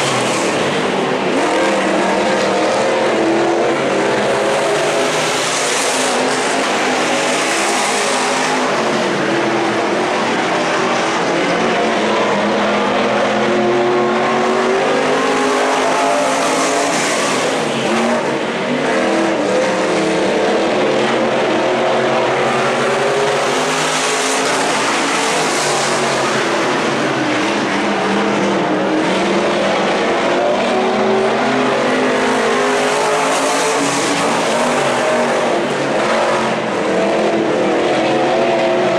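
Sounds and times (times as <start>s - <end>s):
stock car engines racing: 0.0s - 38.9s.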